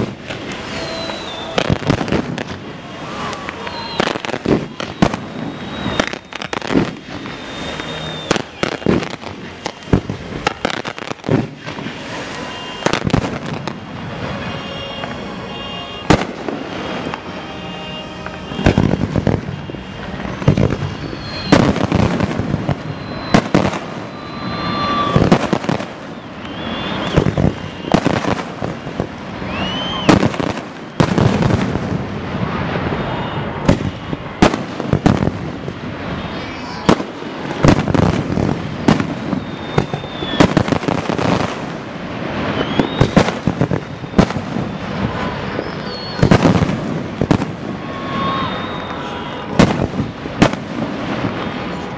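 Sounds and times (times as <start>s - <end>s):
firework whistles: 0.0s - 51.9s
fireworks bangs and crackles: 0.0s - 51.9s.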